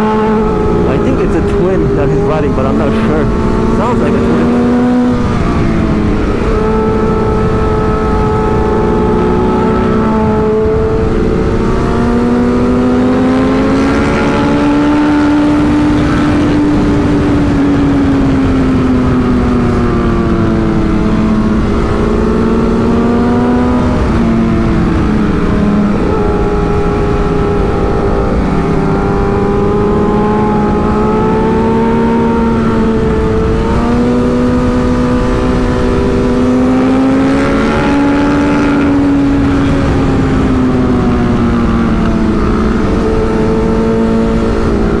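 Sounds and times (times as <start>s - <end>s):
motorcycle engine revving: 0.0s - 45.0s
wind noise on microphone: 0.0s - 45.0s.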